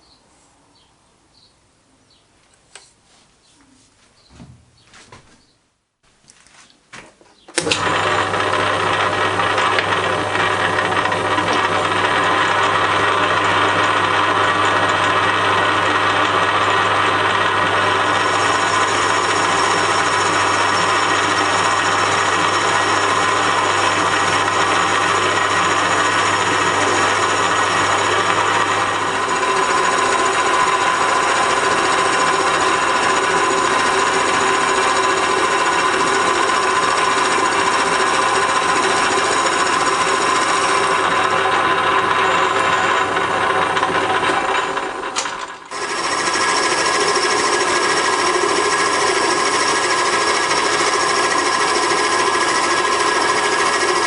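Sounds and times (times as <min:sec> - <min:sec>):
metalworking machine tool running: 0:07.6 - 0:54.0.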